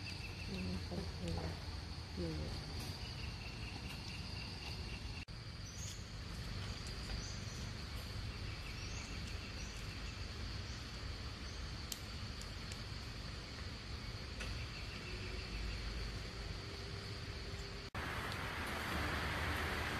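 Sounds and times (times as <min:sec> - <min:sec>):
low insect trill: 0:00.0 - 0:17.9
insects droning: 0:00.0 - 0:19.9.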